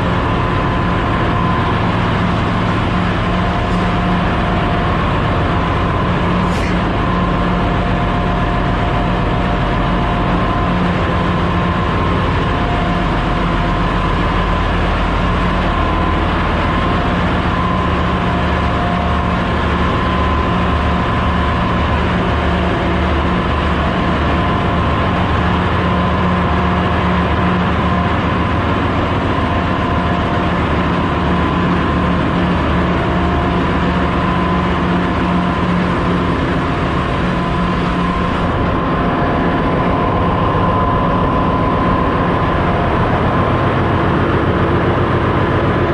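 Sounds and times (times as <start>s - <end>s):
engine room machinery drone: 0.0s - 45.9s.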